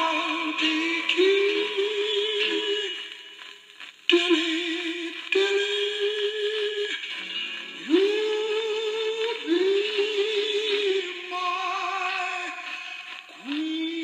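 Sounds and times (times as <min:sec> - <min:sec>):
singer with vibrato: 0:00.0 - 0:03.4, 0:04.1 - 0:07.1, 0:07.7 - 0:14.0
small orchestra on old record: 0:00.0 - 0:14.0.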